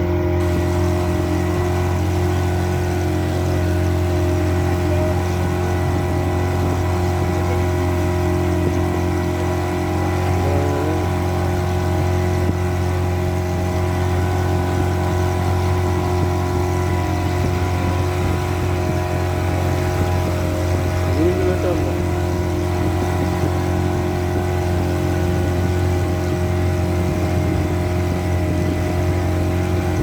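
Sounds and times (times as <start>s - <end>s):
rushing water: 0.0s - 30.0s
speedboat engine drone: 0.0s - 30.0s
wind: 0.0s - 30.0s.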